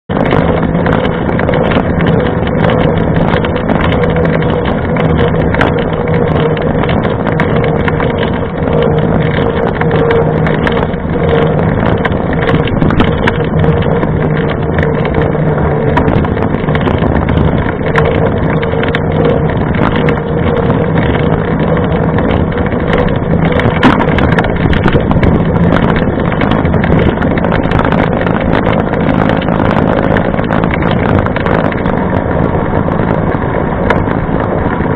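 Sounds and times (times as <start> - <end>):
bike tyre rolling on wet asphalt: 0.1 - 34.9.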